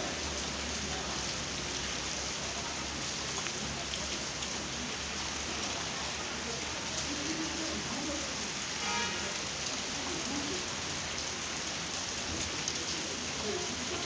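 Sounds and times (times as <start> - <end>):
heavy rain pattering: 0.0 - 14.0.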